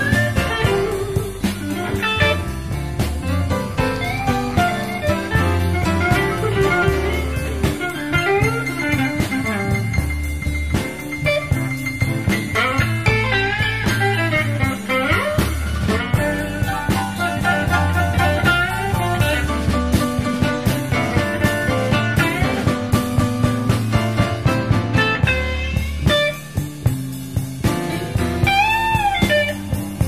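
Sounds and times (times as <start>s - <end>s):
drums: 0.0s - 30.0s
electric guitar lead with bent notes: 0.0s - 30.0s
walking bass line: 0.0s - 30.0s.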